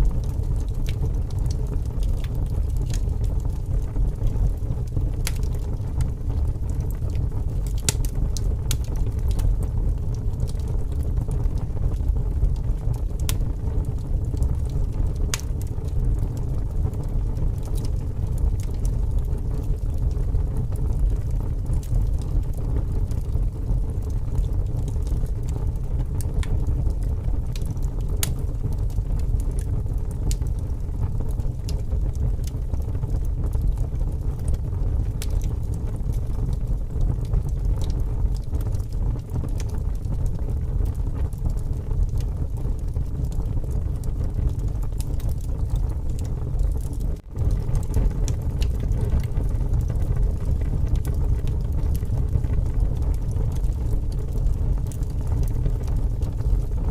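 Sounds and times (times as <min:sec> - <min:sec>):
strong wind rumble: 0:00.0 - 0:56.9
wood fire crackling: 0:00.0 - 0:56.9.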